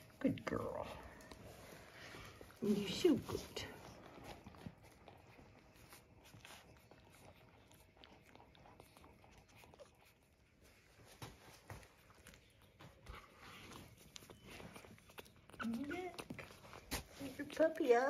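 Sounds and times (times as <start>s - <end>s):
puppies suckling clicks and smacks: 0.0s - 18.0s.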